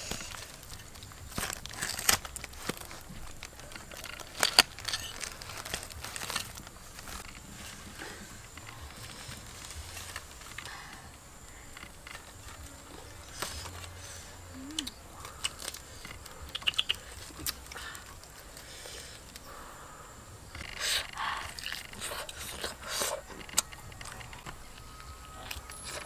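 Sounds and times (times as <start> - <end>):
biting and chewing meat: 0.0 - 14.0, 14.8 - 19.5, 20.5 - 26.0.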